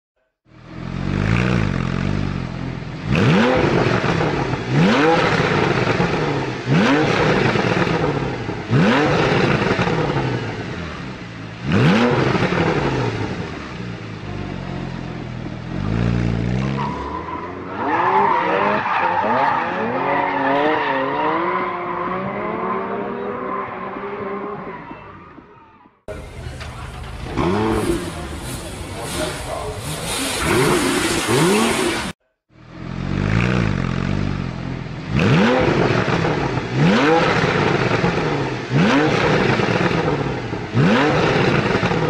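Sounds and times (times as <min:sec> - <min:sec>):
car engine revving: 0:00.5 - 0:24.7, 0:26.1 - 0:42.0.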